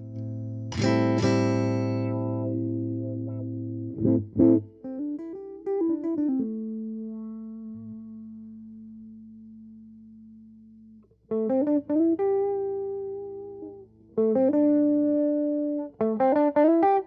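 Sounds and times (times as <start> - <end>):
bass guitar notes: 0.0 - 16.2.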